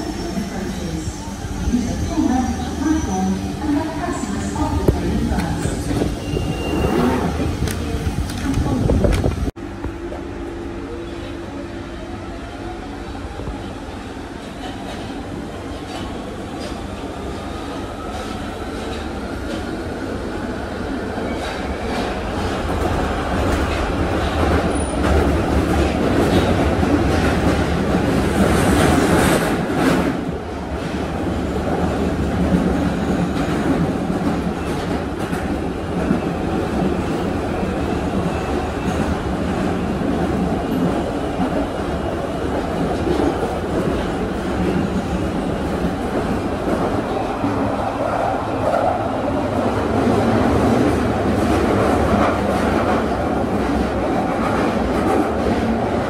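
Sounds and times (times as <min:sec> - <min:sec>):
train wheels rumbling on rails: 0:00.0 - 0:11.3, 0:12.3 - 0:56.0.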